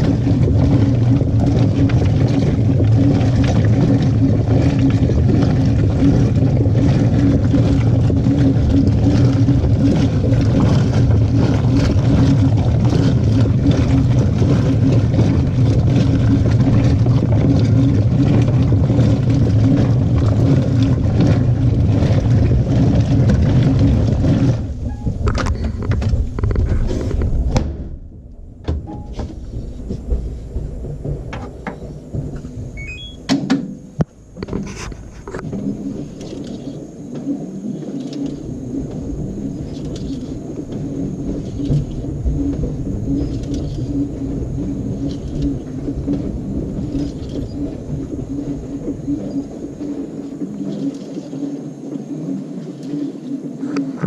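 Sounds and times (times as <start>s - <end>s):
washing machine churning: 0.0s - 54.0s
washing machine motor hum: 0.0s - 54.0s.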